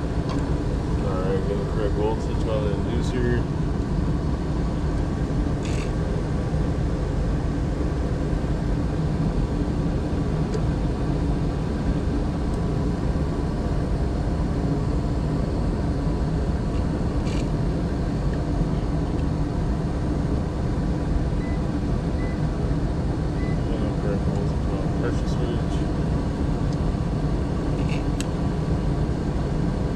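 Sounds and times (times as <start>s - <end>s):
gas furnace rumbling: 0.0s - 29.9s.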